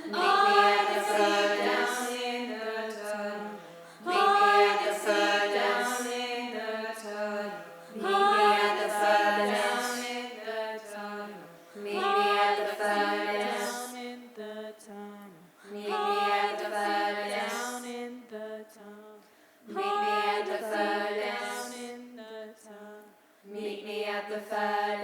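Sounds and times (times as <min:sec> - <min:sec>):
group of voices singing: 0:00.0 - 0:25.0.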